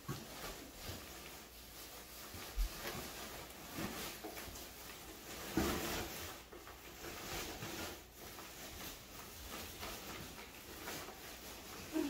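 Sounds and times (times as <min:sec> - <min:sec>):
plastic branches rustling against cardboard: 0:00.0 - 0:12.0.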